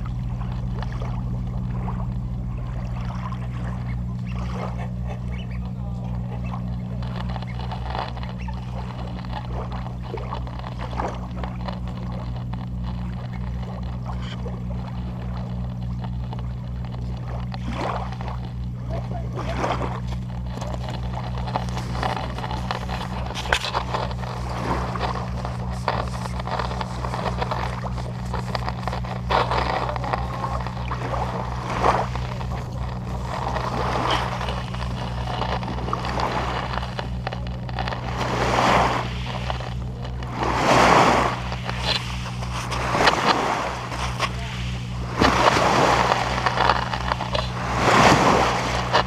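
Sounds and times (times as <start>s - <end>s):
boat engine humming: 0.0s - 49.0s
rushing water: 0.0s - 49.0s
wind: 0.0s - 49.0s.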